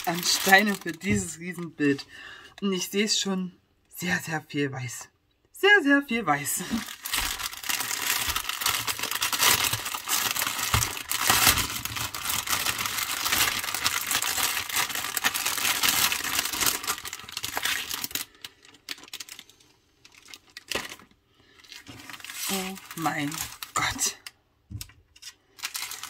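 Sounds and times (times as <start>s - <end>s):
plastic packaging crinkling: 0.0s - 2.0s, 6.6s - 26.0s.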